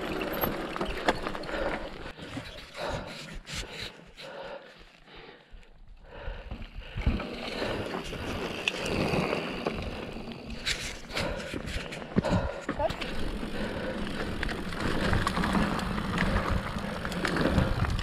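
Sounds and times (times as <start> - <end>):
bike clicks and rattles: 0.0 - 4.5, 6.0 - 18.0
bike tyres on loose dirt: 0.0 - 18.0.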